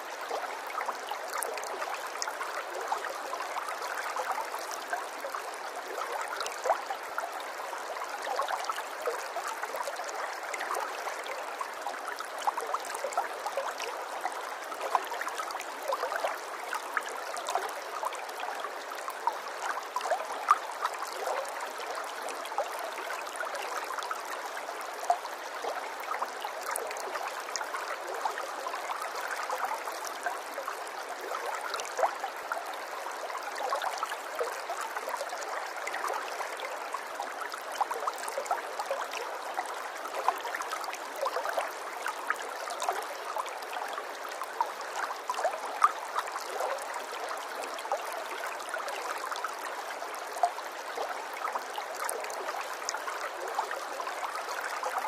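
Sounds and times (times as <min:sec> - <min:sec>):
running water babbling: 0:00.0 - 0:55.0.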